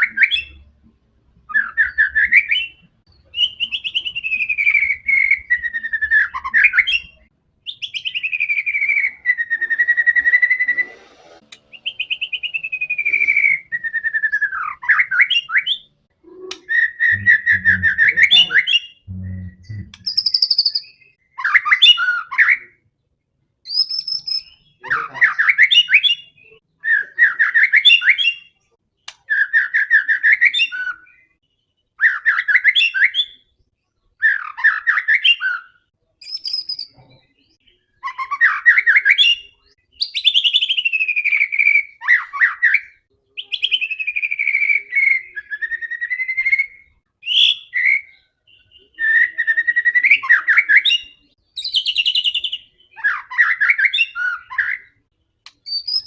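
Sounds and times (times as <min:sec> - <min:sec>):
bird whistling song: 0:01.5 - 0:10.8, 0:11.7 - 0:22.8, 0:23.7 - 0:28.6, 0:29.3 - 0:31.4, 0:34.2 - 0:55.0, 0:55.6 - 0:56.0.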